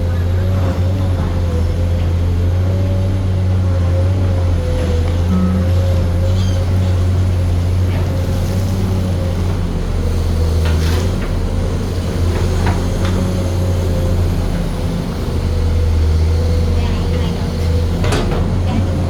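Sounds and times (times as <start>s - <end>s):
excavator engine drone with whine: 0.0s - 19.0s.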